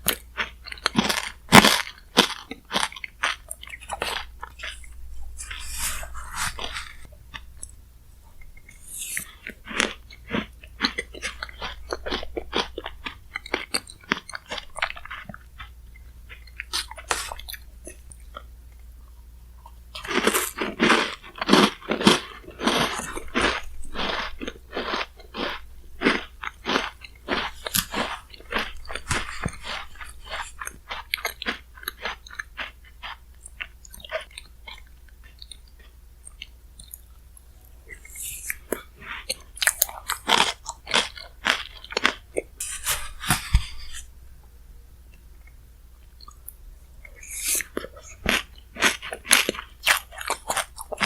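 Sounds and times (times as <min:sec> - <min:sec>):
chewing and crunching ice: 0:00.0 - 0:44.1, 0:45.4 - 0:51.0.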